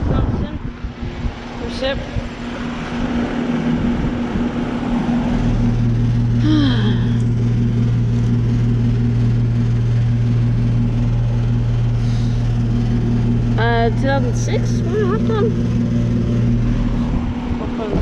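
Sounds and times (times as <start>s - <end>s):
compressor low hum: 0.0s - 18.0s
condenser fan whirring: 0.0s - 18.0s.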